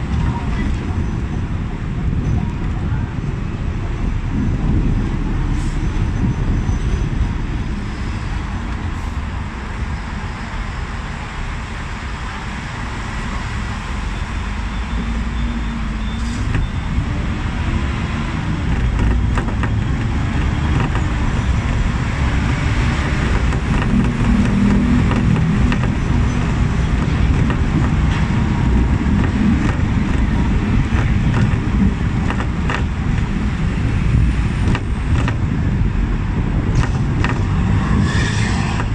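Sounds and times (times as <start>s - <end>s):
road traffic: 0.0s - 38.9s
tram rumbling on rails: 0.0s - 38.9s.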